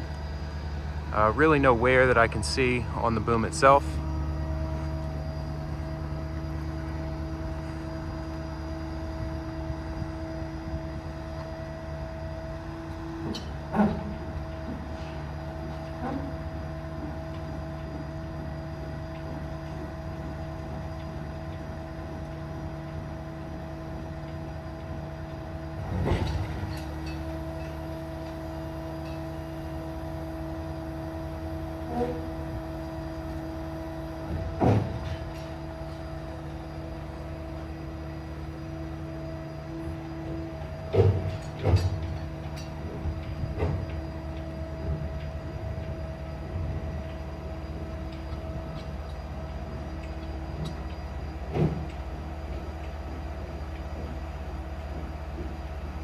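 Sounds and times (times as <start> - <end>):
diesel engine droning: 0.0 - 51.5.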